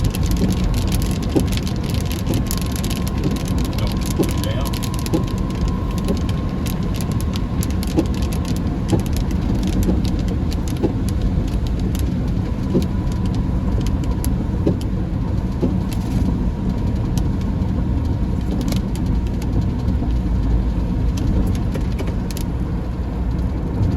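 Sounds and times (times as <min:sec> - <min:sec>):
engine and tyres on wet road: 0:00.0 - 0:23.9
raindrops striking car: 0:00.0 - 0:23.9.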